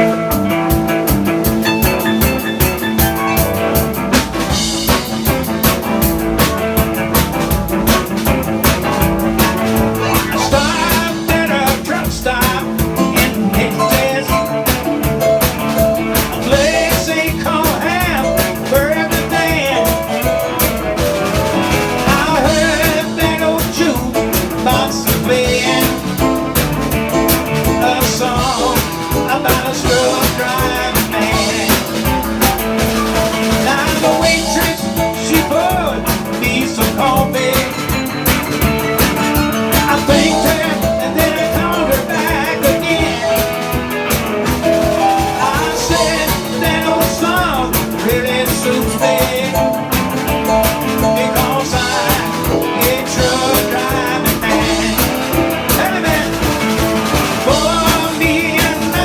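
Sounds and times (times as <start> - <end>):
live band playing country-rock: 0.0 - 59.0.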